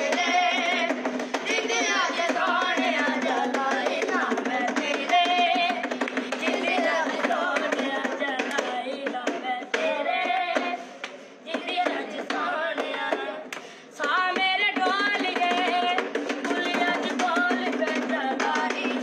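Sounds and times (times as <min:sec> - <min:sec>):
hand drumming on wooden desk: 0:00.0 - 0:10.8, 0:14.0 - 0:19.0
boys singing a melody: 0:00.0 - 0:19.0.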